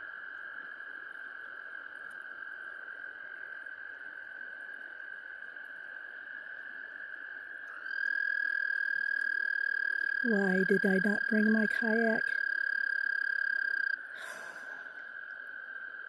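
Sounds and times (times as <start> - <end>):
frogs trilling: 0.9 - 16.0.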